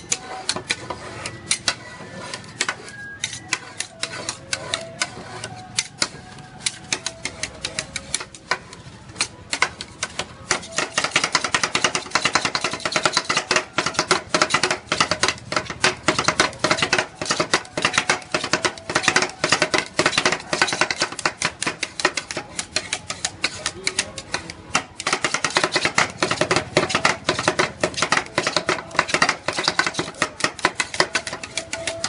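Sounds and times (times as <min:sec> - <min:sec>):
metal spatulas chopping on steel plate: 0:00.0 - 0:32.0.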